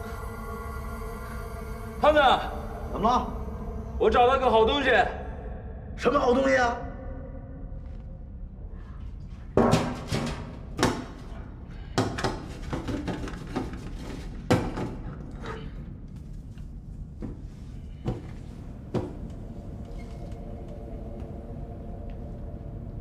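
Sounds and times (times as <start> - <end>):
low suspense music tone: 0.0 - 12.0, 15.0 - 23.0.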